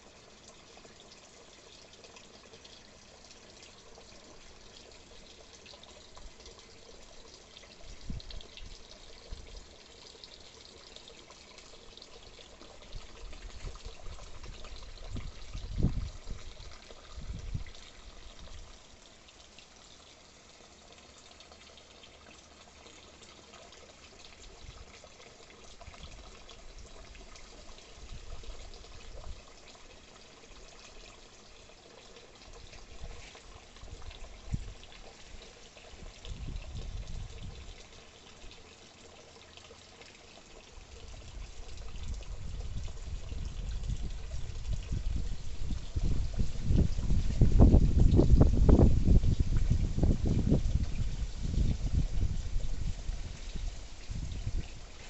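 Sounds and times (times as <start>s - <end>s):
water trickling and pouring: 0.0s - 55.0s.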